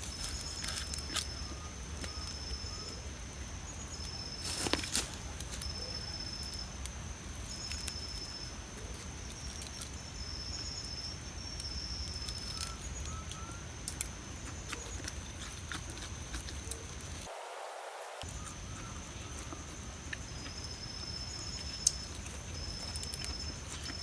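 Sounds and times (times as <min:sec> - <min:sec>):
high insect drone: 0:00.0 - 0:24.0
insect trills: 0:00.0 - 0:24.0.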